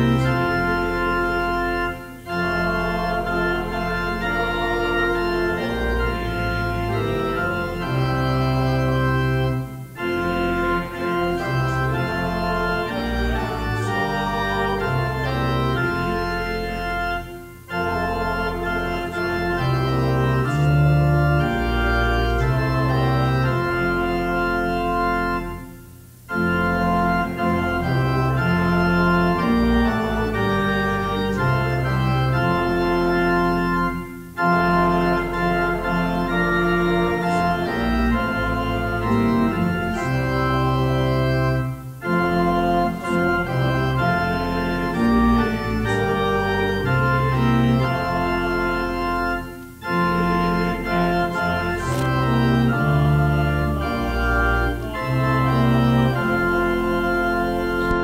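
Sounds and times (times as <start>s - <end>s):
organ playing held chords: 0.0s - 58.0s.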